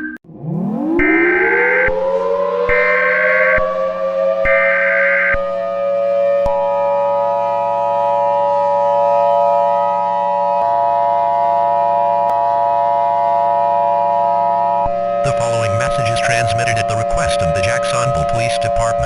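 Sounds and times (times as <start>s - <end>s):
civil defense siren: 0.2s - 19.0s.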